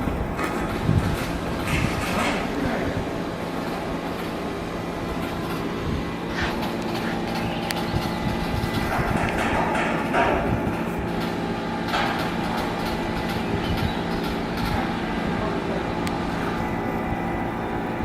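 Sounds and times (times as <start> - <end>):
low machinery drone: 0.0 - 18.0.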